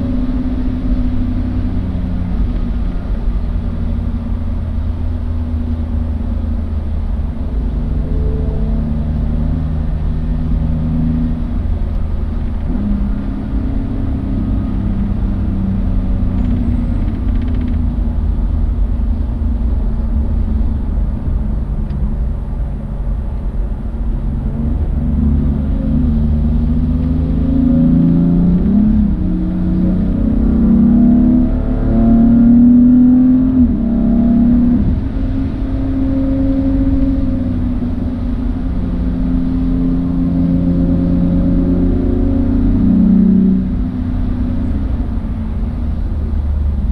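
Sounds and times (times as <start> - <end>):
car engine running: 0.0 - 46.9
low road rumble: 0.0 - 46.9.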